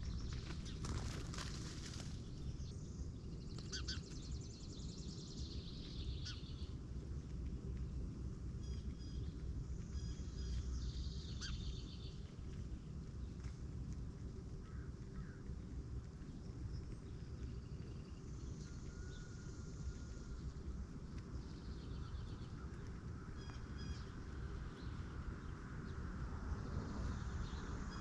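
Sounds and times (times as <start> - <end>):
small songbirds chirping: 0.0 - 28.0
steady low rumble: 0.0 - 28.0.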